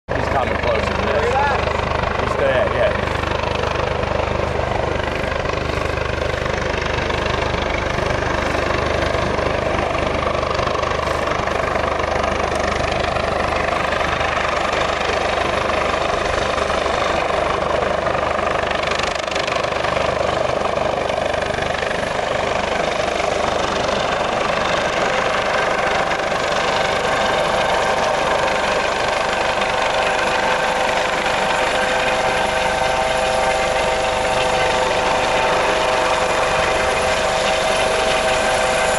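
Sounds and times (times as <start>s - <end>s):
helicopter rotor and turbine drone: 0.1s - 38.9s
steady whining tones: 0.1s - 38.9s.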